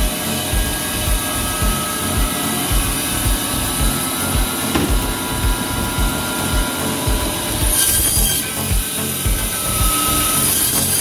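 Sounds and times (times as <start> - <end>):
band saw motor hum: 0.0 - 11.0.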